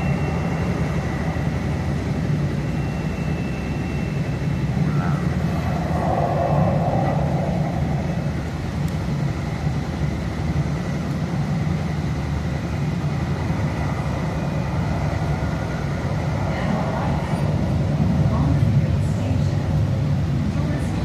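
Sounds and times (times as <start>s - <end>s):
train rumble and hum inside car: 0.0s - 21.0s.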